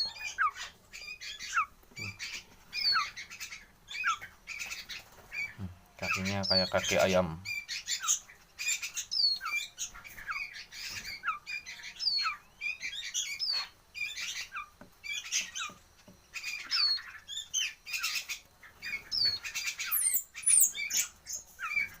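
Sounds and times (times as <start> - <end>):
bird chick squawking and chirping: 0.0 - 22.0.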